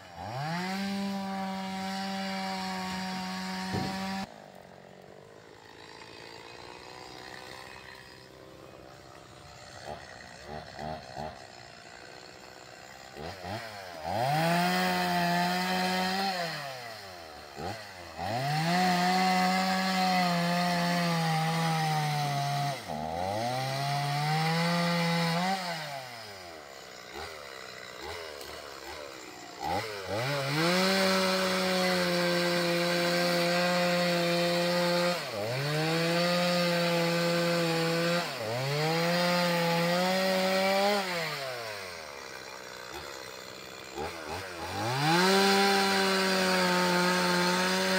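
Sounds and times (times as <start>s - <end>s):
chainsaw revving and cutting wood: 0.0s - 47.9s.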